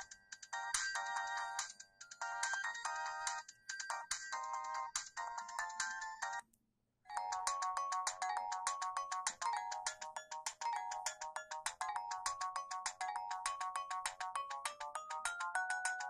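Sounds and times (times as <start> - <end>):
phone ringtone melody: 0.0 - 6.4, 7.1 - 16.0.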